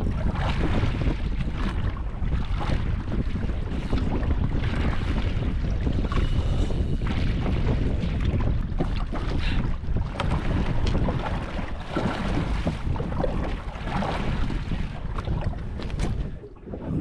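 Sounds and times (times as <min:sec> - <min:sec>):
water sounds: 0:00.0 - 0:17.0
wind buffeting microphone: 0:00.0 - 0:17.0.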